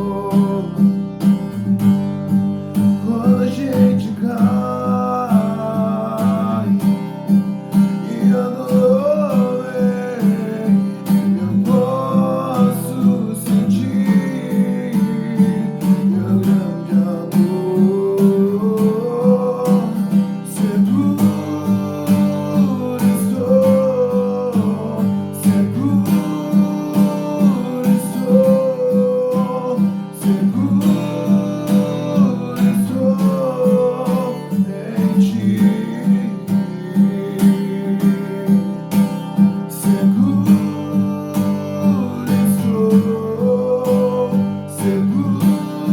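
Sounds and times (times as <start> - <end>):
strummed acoustic guitar: 0.0 - 45.9.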